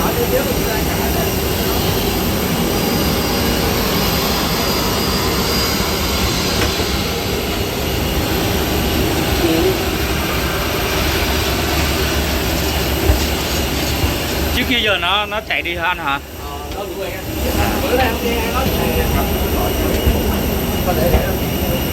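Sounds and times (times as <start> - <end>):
jet engines roaring: 0.0 - 21.9.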